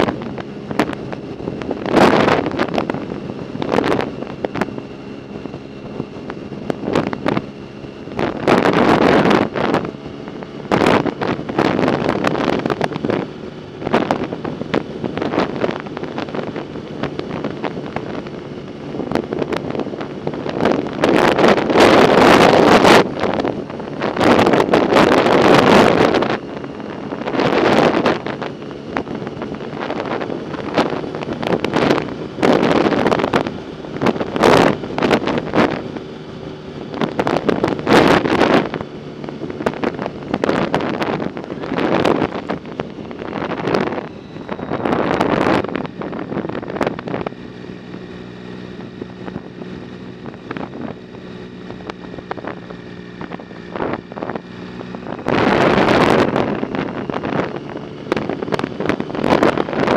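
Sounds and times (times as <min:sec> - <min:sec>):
steady low hum: 0:00.0 - 0:59.9
wind buffeting microphone: 0:00.0 - 0:59.9.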